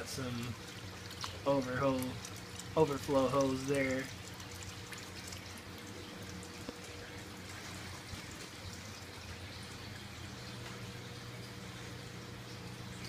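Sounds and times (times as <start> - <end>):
steady low hum: 0.0 - 13.0
water trickling and splashing: 0.0 - 13.0.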